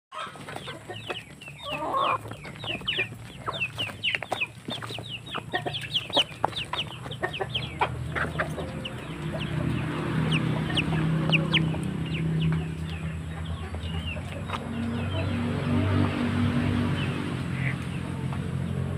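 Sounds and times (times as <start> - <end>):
chickens clucking: 0.1 - 18.9.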